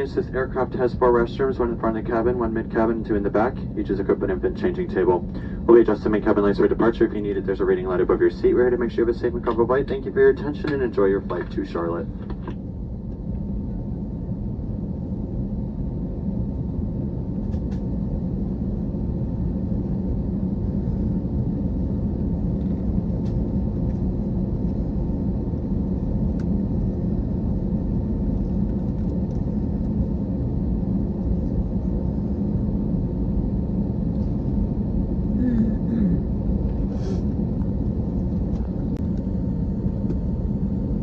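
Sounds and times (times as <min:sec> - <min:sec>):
faint steady hum: 0:00.0 - 0:41.0
jet engine rumble and airflow: 0:00.0 - 0:41.0.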